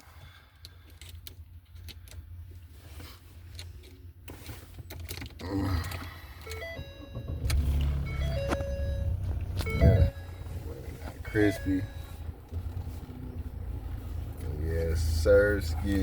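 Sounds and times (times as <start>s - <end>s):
car engine rumble inside cabin: 1.4s - 16.0s.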